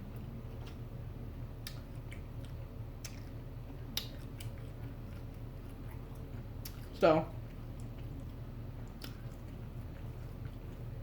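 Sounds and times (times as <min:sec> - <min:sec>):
steady low hum: 0:00.0 - 0:11.0
person chewing food: 0:01.5 - 0:11.0.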